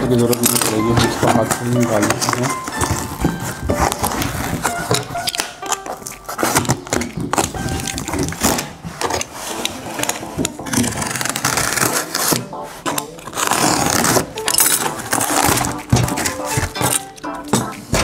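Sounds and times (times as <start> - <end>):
cardboard packaging rustling: 0.0 - 18.0.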